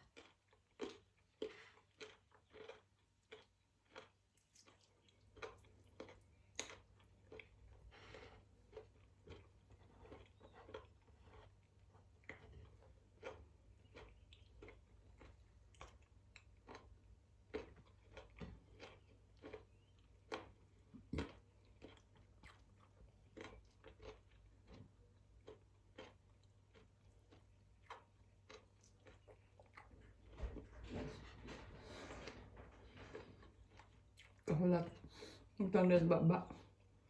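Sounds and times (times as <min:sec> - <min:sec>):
person chewing food: 0:00.0 - 0:35.6, 0:36.6 - 0:37.0.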